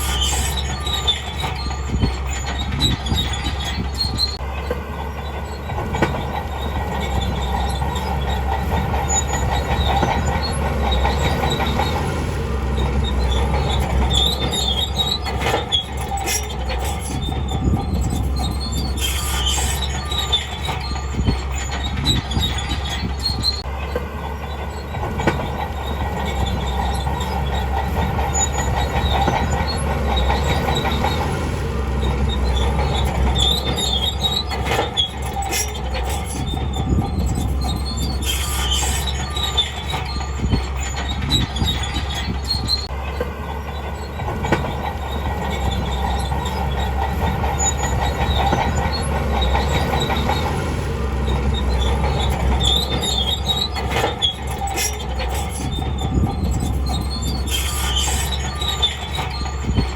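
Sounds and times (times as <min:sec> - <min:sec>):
bulldozer diesel engine drone: 0:00.0 - 0:59.9
steel tracks squealing and clanking: 0:00.0 - 0:59.9.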